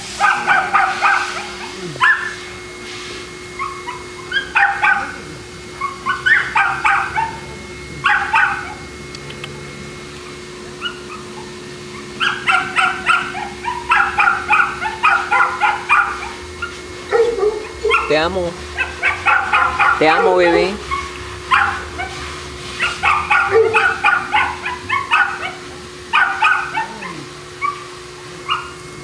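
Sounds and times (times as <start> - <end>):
small dog yapping: 0.2 - 2.4, 3.6 - 9.3, 10.8 - 18.2, 18.8 - 22.2, 22.8 - 28.8.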